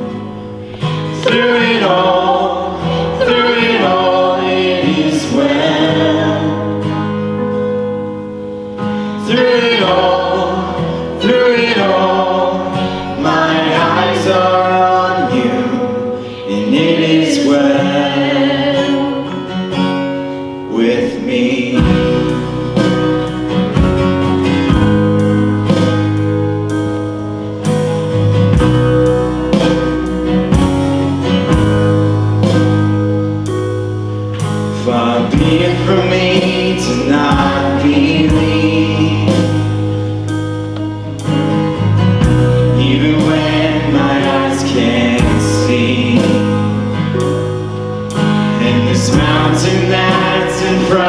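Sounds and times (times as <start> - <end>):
steady bass: 0.0 - 16.1, 21.8 - 51.0
band accompaniment: 0.0 - 20.0, 21.8 - 51.0
guitar strumming chords: 0.0 - 51.0
singers holding long notes: 0.0 - 51.0.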